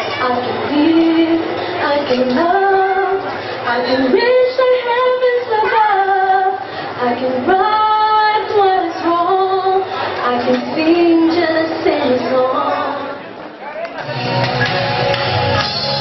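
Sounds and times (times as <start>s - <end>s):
woman singing: 0.1s - 13.2s.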